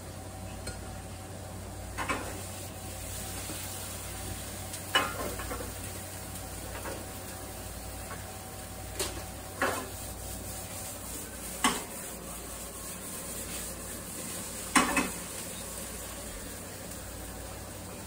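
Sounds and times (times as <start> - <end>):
faint sizzle: 0.0 - 18.0
meat stirred in a frying pan: 1.6 - 18.0.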